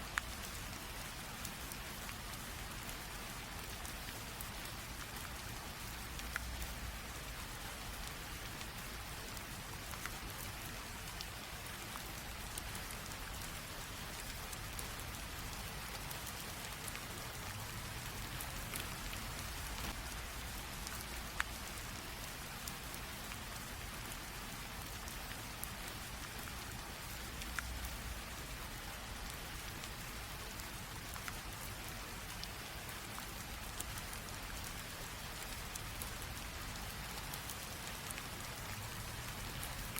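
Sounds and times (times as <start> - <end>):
light rain hiss: 0.0 - 39.9
raindrops ticking on surface: 0.0 - 39.9.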